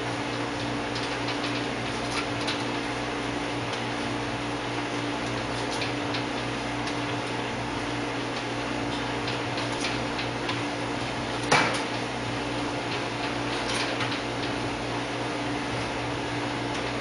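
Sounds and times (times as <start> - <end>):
electrical fan hum: 0.0 - 17.0.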